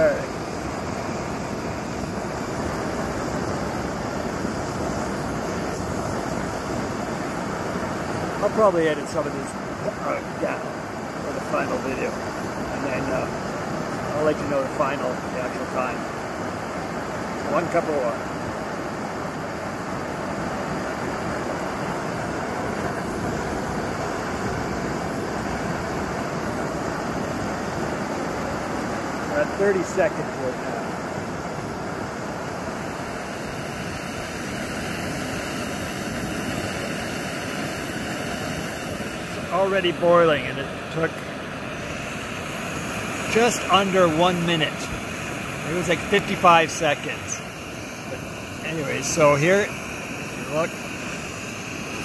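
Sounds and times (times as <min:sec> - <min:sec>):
gas stove flame hissing: 0:00.0 - 0:52.0.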